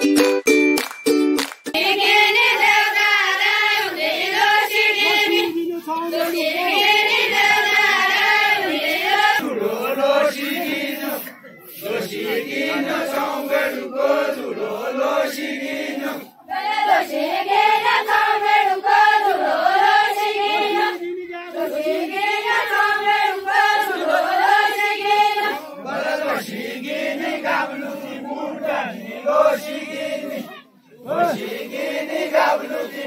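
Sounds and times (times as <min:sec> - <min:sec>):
group singing folk chant: 0:01.7 - 0:33.0.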